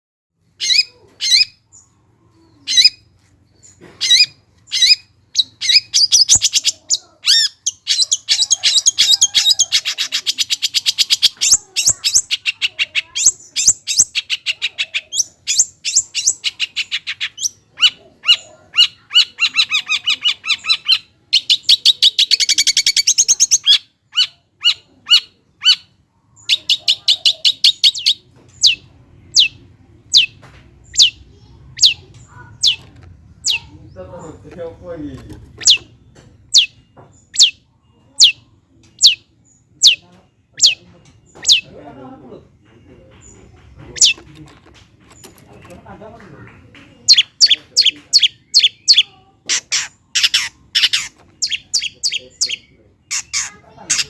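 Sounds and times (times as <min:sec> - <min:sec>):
shrike singing: 0:04.0 - 0:44.3, 0:47.0 - 0:54.0.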